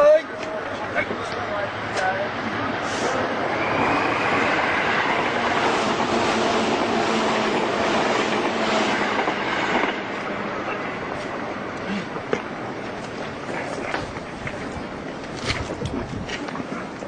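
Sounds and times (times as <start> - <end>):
electric train passing: 0.0 - 15.4.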